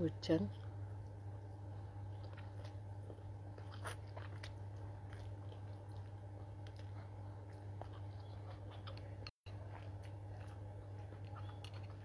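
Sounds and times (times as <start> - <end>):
steady low hum: 0.0 - 12.0
slurping and chewing noodles: 0.5 - 12.0.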